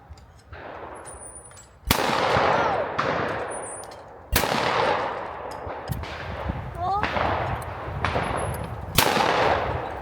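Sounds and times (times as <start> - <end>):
shotgun shots with echo: 1.9 - 10.0.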